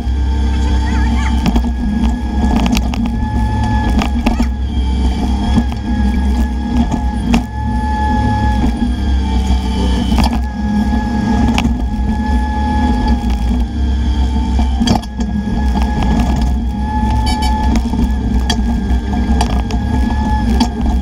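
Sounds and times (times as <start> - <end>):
diesel engine whining under load: 0.0 - 21.0.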